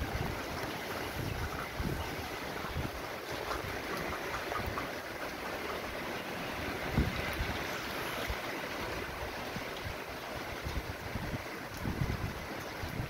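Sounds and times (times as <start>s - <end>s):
rain falling: 0.0s - 13.0s
wind gusting on microphone: 0.0s - 13.0s.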